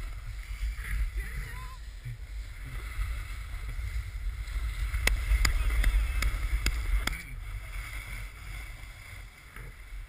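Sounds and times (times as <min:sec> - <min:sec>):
snowboard sliding on snow: 0:00.0 - 0:10.0
wind buffeting microphone: 0:00.0 - 0:10.0.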